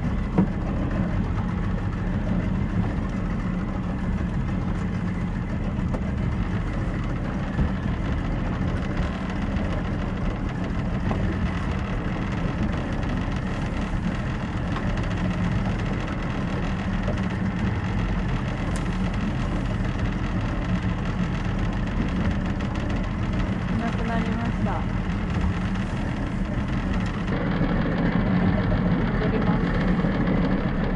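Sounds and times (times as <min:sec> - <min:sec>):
motorboat engine running: 0:00.0 - 0:30.9.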